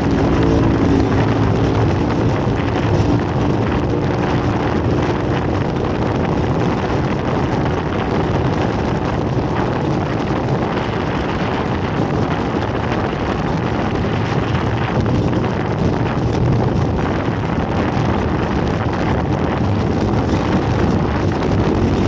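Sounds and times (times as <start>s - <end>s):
vehicle engine and driving noise: 0.0s - 22.0s
wind buffeting microphone: 0.0s - 22.0s.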